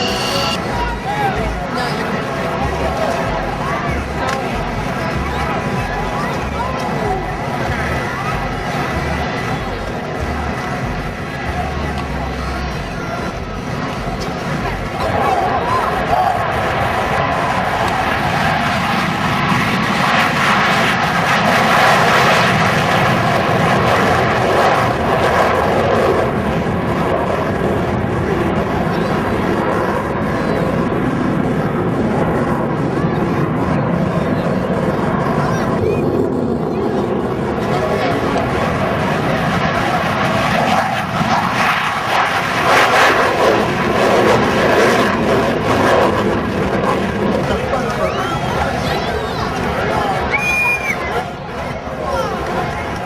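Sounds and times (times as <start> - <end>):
fighter jet engine noise: 0.0 - 53.0.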